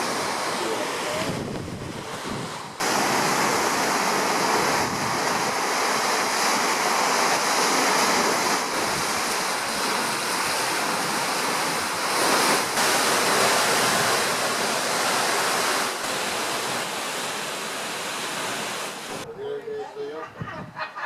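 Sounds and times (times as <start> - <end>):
steady rushing noise: 0.0 - 19.3.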